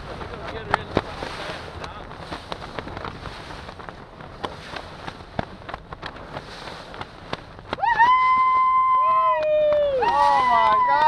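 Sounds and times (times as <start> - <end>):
water slapping boat hull: 0.0 - 11.0
wind on microphone: 0.0 - 11.0.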